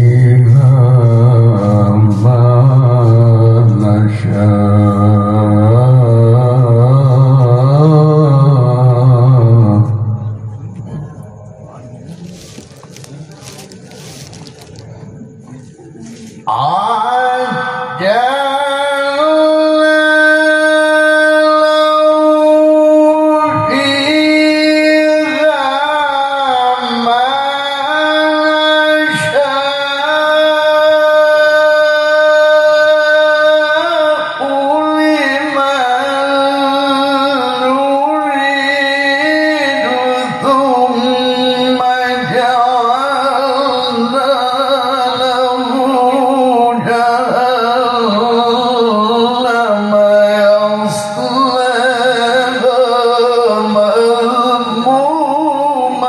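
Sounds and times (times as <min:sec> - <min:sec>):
man chanting melodic recitation: 0:00.0 - 0:14.8, 0:16.1 - 0:56.0.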